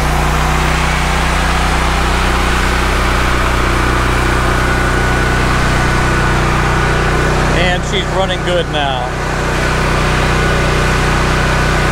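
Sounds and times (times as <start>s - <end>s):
portable generator running: 0.0s - 11.9s.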